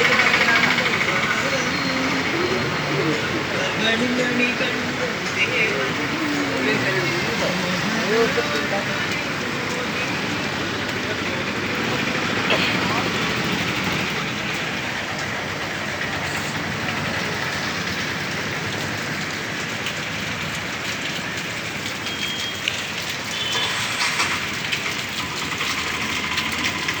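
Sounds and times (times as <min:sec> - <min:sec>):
heavy rain pouring: 0:00.0 - 0:27.0
running water: 0:00.0 - 0:27.0.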